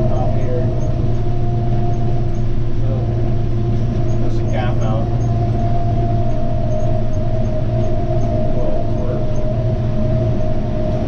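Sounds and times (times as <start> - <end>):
steady mechanical whine: 0.0 - 11.0
tractor engine droning: 0.0 - 11.0.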